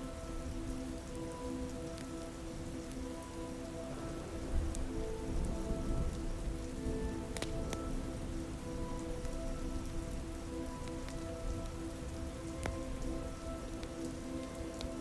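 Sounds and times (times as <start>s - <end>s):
ambient score of held notes: 0.0s - 15.0s
soft rain: 0.0s - 15.0s.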